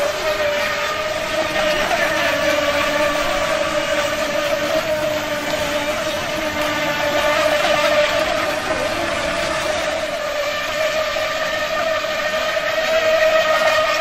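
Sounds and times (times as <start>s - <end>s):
speedboat motor whine: 0.0s - 14.0s.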